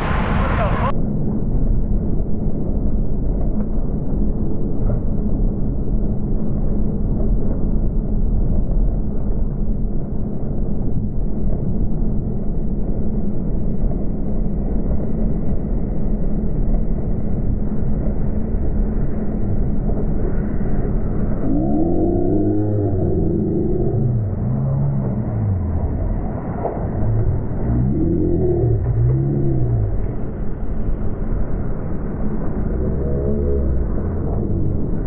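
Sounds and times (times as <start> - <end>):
bicycle road noise: 0.0 - 35.0
faint steady hum: 0.0 - 35.0
wind rush: 0.0 - 35.0.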